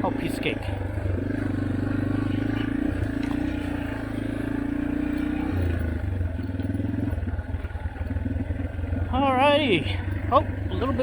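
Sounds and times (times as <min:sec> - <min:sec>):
dirt bike engine: 0:00.0 - 0:11.0.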